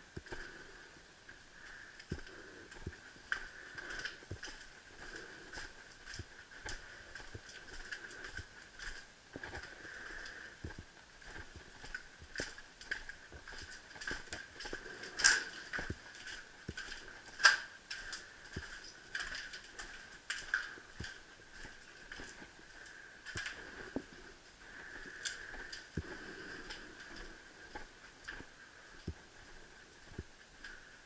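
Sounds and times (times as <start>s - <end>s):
footsteps on debris: 1.7s - 30.8s.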